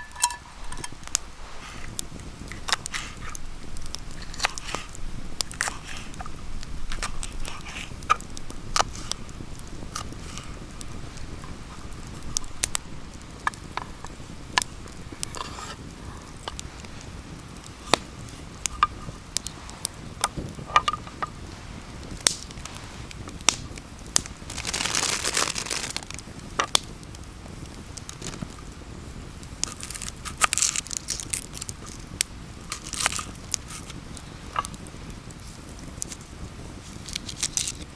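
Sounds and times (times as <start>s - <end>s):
campfire crackling: 0.0s - 37.9s
fire popping and snapping: 0.0s - 37.9s.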